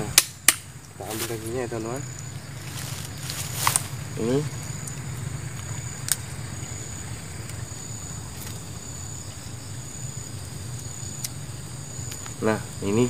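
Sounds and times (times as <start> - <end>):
high insect drone: 0.0 - 13.0
low hum: 0.0 - 13.0.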